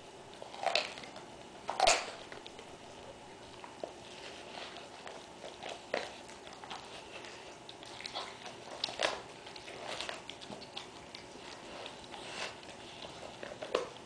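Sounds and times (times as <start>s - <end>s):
dog chewing meat and bone: 0.0s - 14.0s.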